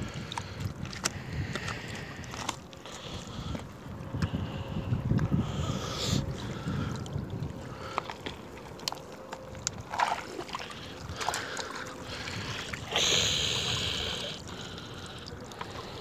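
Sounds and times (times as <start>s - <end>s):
seawater splashing and sloshing: 0.0s - 16.0s
water streaming: 0.0s - 16.0s.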